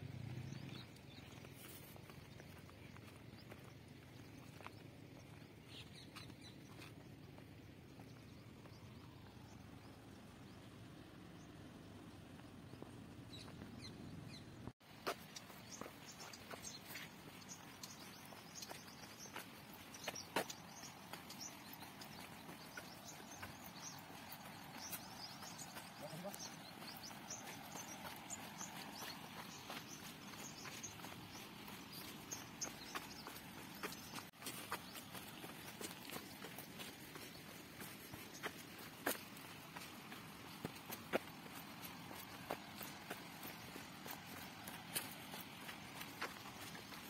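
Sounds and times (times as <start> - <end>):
faint outdoor ambience: 0.0 - 47.0
small birds chirping: 0.0 - 47.0
footsteps on dirt path with twigs: 0.2 - 13.8, 14.8 - 47.0.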